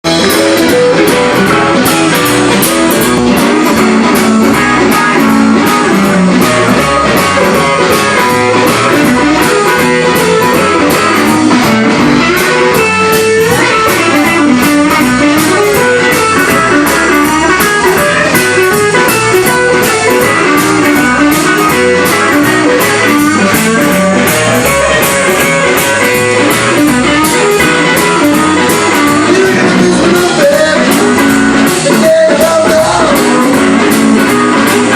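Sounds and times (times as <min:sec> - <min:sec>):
electric guitar: 0:00.0 - 0:34.9
live blues-rock band: 0:00.0 - 0:34.9
steady drum beat: 0:00.0 - 0:34.9.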